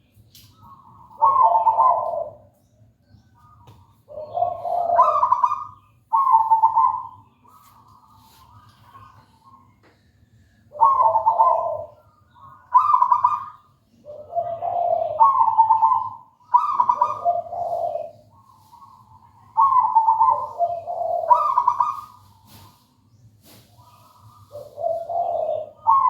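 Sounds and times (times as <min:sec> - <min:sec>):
dove cooing: 0:00.7 - 0:02.5, 0:03.4 - 0:09.6, 0:10.7 - 0:22.8, 0:23.8 - 0:26.0.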